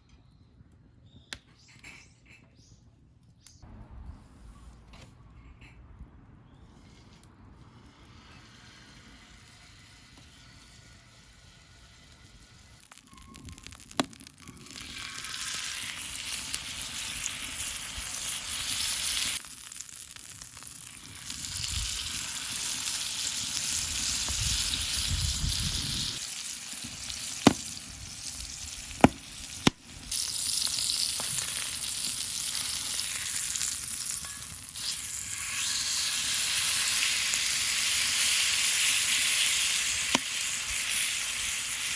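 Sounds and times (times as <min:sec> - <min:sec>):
food sizzling in fat: 0:08.1 - 0:41.9.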